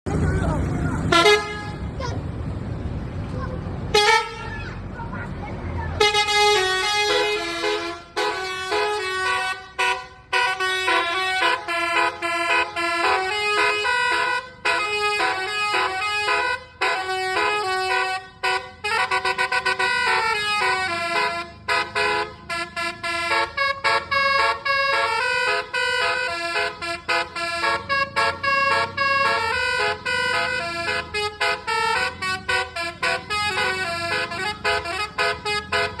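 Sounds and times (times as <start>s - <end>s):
bus musical horn melody: 1.0s - 2.0s, 3.9s - 4.8s, 6.0s - 36.0s.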